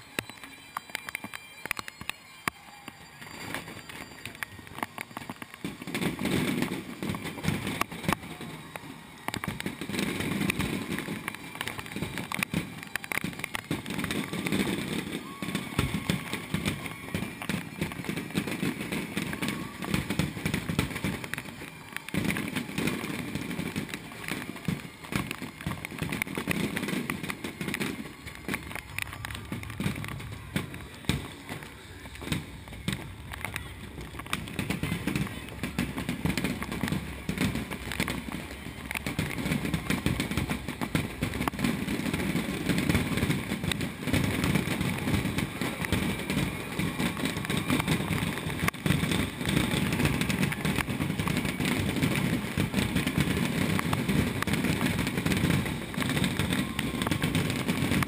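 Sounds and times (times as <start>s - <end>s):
crowd voices: 0.0s - 58.0s
firework bursts: 0.0s - 58.0s.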